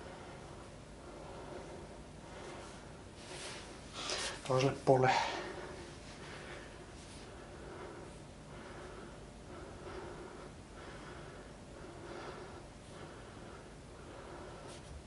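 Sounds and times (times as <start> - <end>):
man breathing rhythmically: 0.0 - 15.0.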